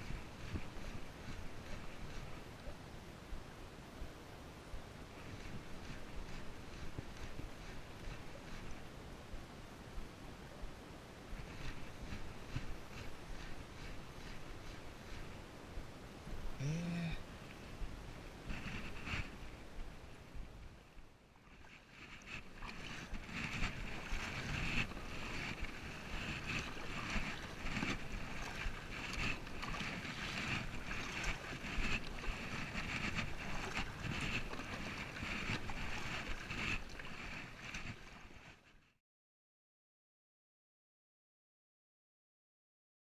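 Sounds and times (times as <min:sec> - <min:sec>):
water splashing around a kayak: 0:00.0 - 0:09.6, 0:10.5 - 0:15.9, 0:17.2 - 0:38.9.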